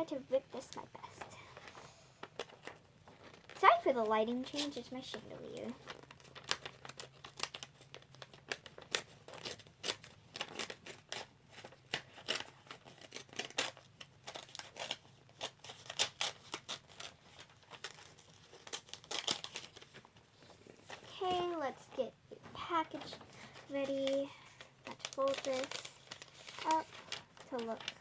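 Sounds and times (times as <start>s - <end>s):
material tearing and crinkling: 2.2s - 4.8s, 5.6s - 21.7s, 22.9s - 28.0s.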